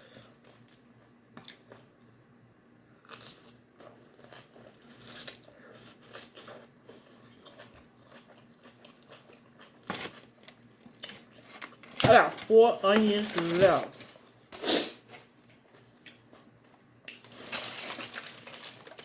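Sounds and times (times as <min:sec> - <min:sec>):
person chewing crunchy food: 0:00.0 - 0:02.0, 0:02.8 - 0:12.0, 0:14.2 - 0:19.0.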